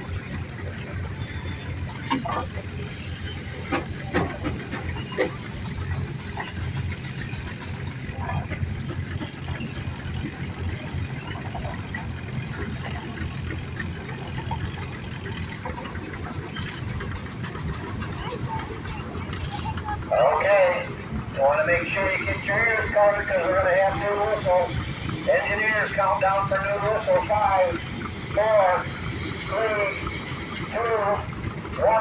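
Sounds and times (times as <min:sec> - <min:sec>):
steam engines rumbling: 0:00.0 - 0:32.0.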